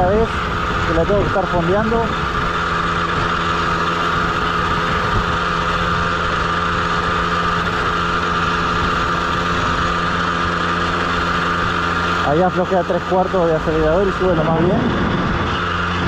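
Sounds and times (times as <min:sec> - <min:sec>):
small motorcycle engine at full throttle: 0:00.0 - 0:16.0.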